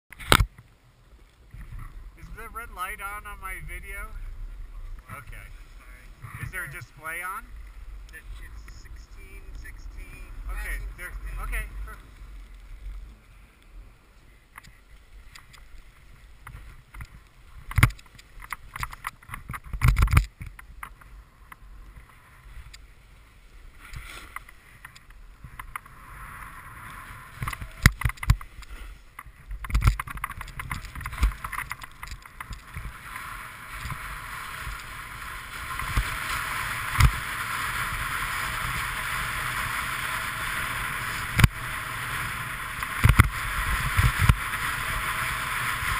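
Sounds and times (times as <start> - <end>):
snowboard scraping over snow: 1.0 - 18.7, 20.3 - 45.9.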